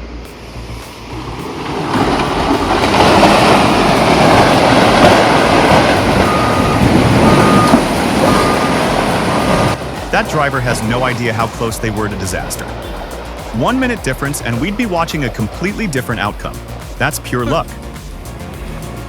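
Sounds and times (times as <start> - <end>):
heavy machinery rumbling: 0.0 - 19.0
backup alarm beeping: 1.9 - 17.8.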